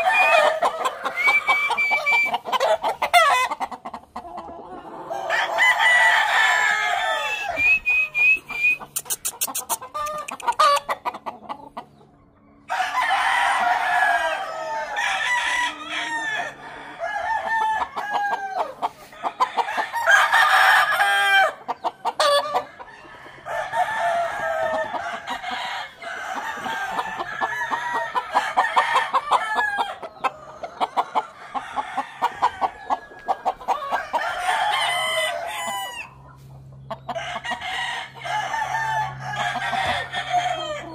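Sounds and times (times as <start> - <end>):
hens clucking: 0.0 - 40.9
roosters crowing: 0.0 - 40.9.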